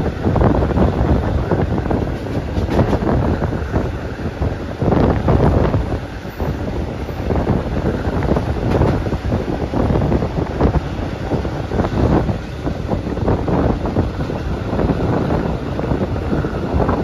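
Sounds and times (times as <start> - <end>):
train rumble and clatter: 0.0 - 17.0
wind buffeting microphone: 0.0 - 17.0.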